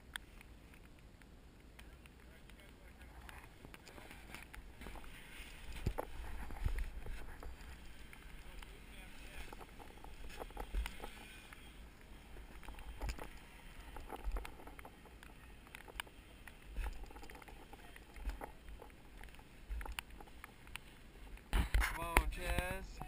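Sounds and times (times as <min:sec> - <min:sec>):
faint clicks and knocks: 0:00.0 - 0:23.0.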